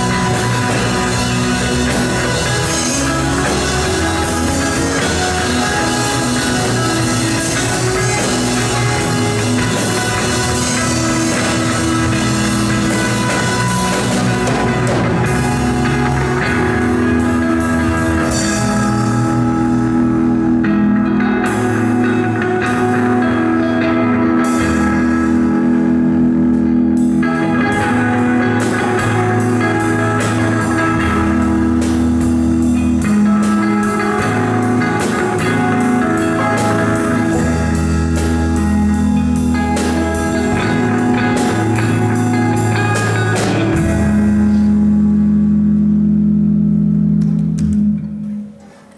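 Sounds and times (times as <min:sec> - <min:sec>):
drum kit: 0:00.0 - 0:48.9
electric guitar: 0:00.0 - 0:48.9
keyboard: 0:00.0 - 0:48.9.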